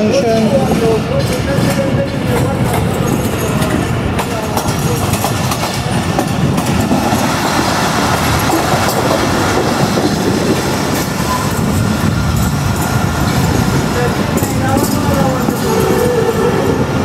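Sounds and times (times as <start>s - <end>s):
train rolling rumble: 0.0s - 17.0s
wheels clicking over rail joints: 0.0s - 17.0s.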